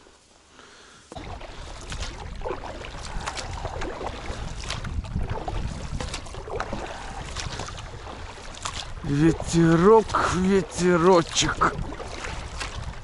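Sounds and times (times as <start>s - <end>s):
oar strokes splashing in water: 0.0s - 13.0s
wind rumble on microphone: 1.2s - 10.8s, 11.5s - 13.0s.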